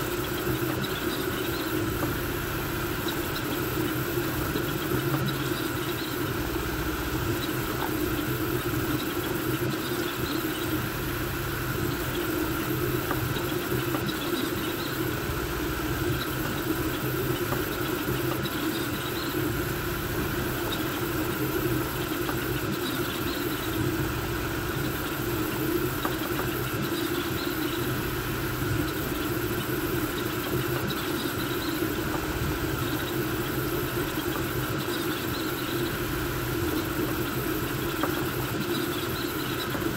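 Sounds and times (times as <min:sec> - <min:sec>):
cooling fans whirring: 0:00.0 - 0:39.9.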